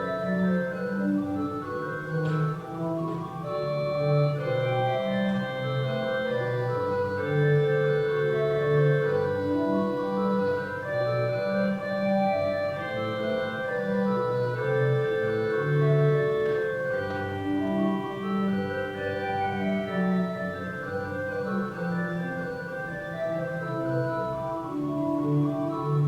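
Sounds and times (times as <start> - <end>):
church organ chords: 0.0 - 26.0.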